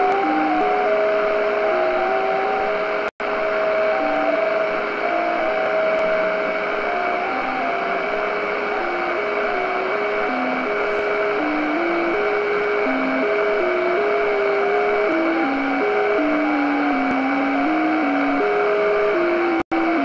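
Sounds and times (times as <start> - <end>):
radio band hiss: 0.0 - 20.0
stepping digital radio tones: 0.0 - 20.0.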